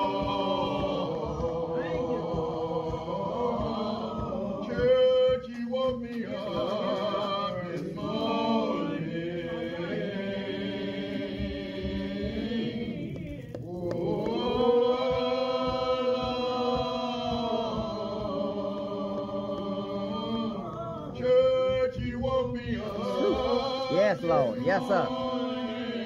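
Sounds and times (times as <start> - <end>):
slow gospel hymn singing: 0.0 - 26.0.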